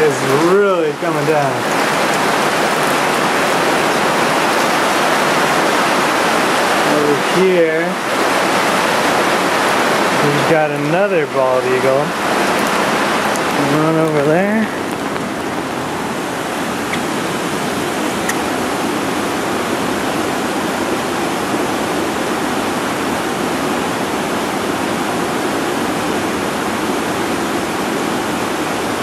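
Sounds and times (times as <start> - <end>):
fast-running creek: 0.0 - 29.0
heavy rain falling: 0.0 - 29.0.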